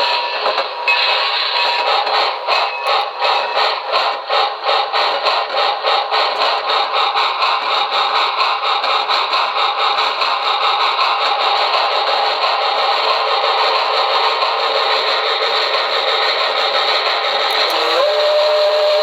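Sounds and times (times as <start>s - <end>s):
thin synthesized steam locomotive chuffing: 0.0s - 19.0s.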